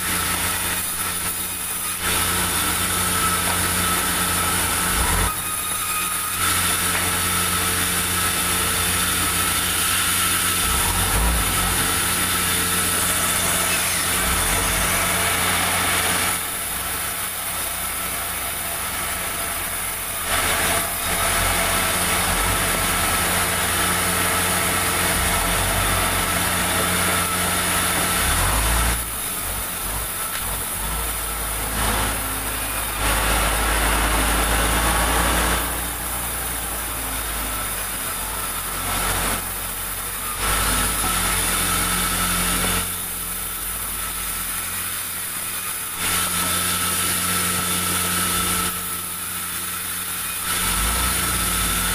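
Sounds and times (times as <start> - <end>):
band saw blade cutting wood: 0.0 - 51.9
saw machine hum: 0.0 - 51.9.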